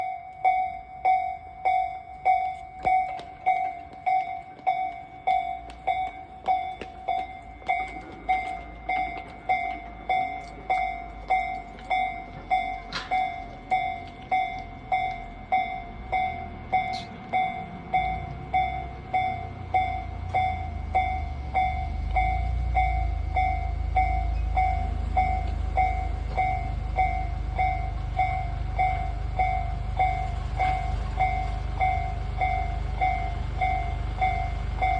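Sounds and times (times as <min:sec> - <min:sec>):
level-crossing alarm ringing: 0:00.0 - 0:34.9
train rumbling: 0:00.0 - 0:34.9.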